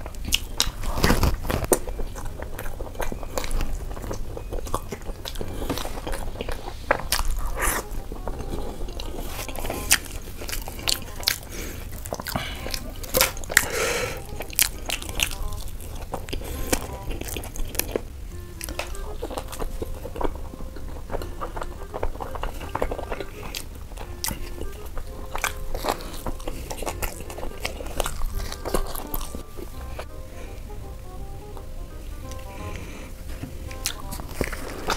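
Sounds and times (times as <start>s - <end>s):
mouth clicks and crunches: 0.0s - 30.6s, 31.6s - 34.9s
man chewing food: 0.0s - 34.9s
soft background music: 0.0s - 34.9s.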